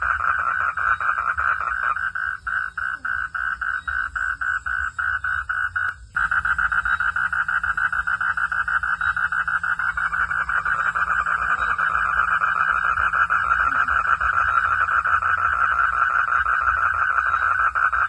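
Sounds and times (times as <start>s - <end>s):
frogs calling in pulses: 0.0s - 18.0s.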